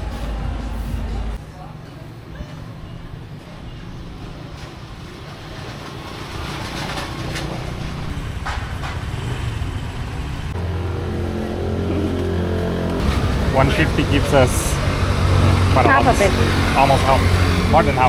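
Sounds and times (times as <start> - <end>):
motor vehicle engine hum: 0.0 - 18.0.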